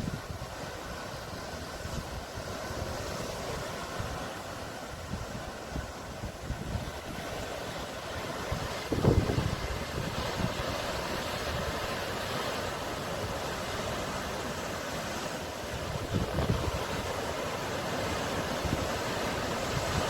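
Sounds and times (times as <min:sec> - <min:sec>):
sea waves washing ashore: 0:00.0 - 0:20.0.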